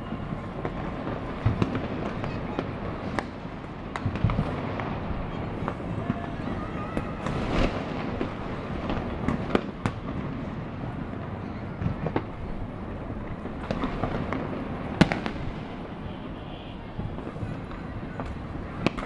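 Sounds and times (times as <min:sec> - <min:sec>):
fireworks banging: 0:00.0 - 0:19.0
steady background noise: 0:00.0 - 0:19.0.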